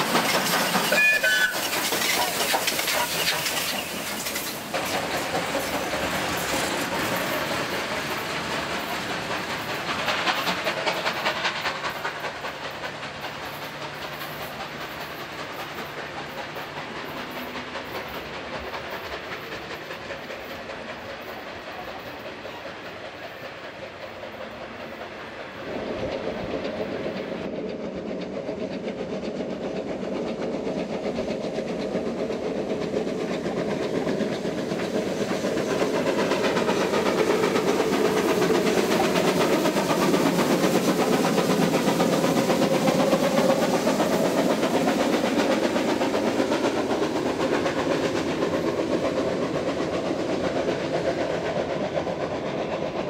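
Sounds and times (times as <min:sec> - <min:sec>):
train coaches rumbling past: 0:00.0 - 0:53.0.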